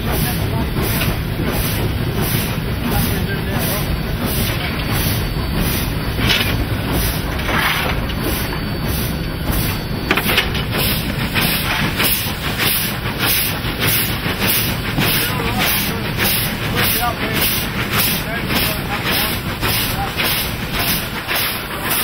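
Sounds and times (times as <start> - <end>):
locomotive cab rumble and rattle: 0.0 - 22.0
steam hissing: 0.0 - 22.0.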